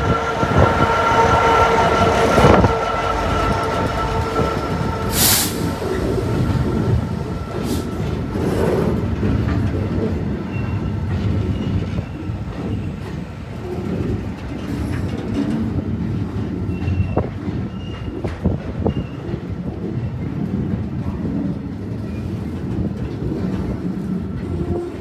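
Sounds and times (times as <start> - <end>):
freight train wagons rumbling: 0.0 - 25.0.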